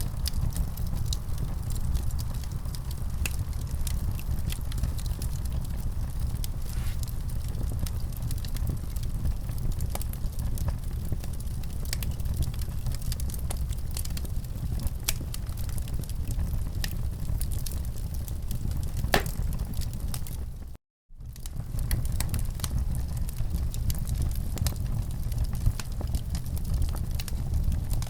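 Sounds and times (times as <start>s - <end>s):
wood fire crackling and popping: 0.0s - 20.6s, 21.3s - 28.0s.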